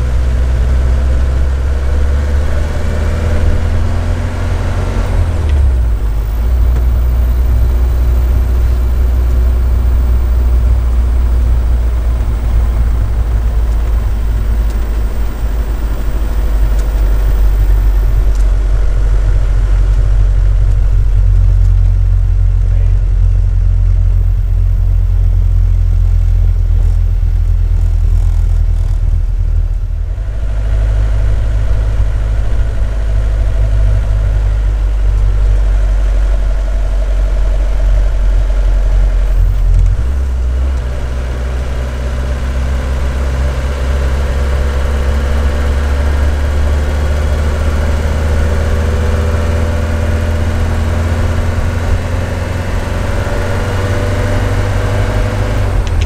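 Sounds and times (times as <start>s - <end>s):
diesel engine drone: 0.0s - 56.0s
road noise: 0.0s - 56.0s.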